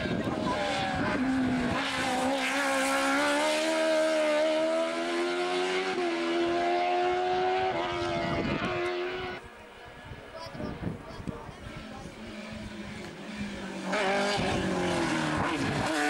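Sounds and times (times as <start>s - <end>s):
race car engine accelerating: 0.0s - 9.5s, 11.8s - 16.0s.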